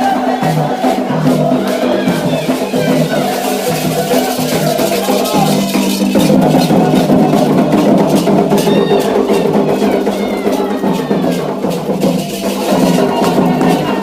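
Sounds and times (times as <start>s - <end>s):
hand drums playing a steady rhythm: 0.0s - 14.0s.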